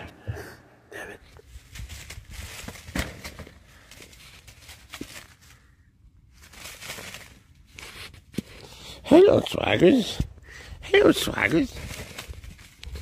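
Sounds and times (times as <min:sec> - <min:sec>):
rustling of dry leaves and dirt: 0:01.4 - 0:10.2, 0:10.8 - 0:13.0.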